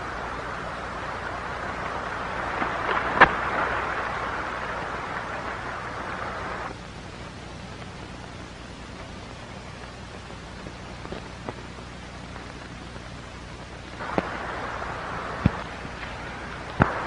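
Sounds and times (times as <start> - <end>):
water splashing: 0.0 - 12.8, 13.6 - 17.0
faint hiss: 0.0 - 17.0.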